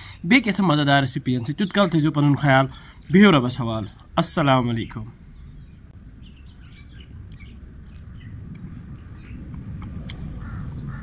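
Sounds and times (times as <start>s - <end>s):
small birds chirping: 0.1s - 11.0s
steady low rumble: 0.1s - 11.0s.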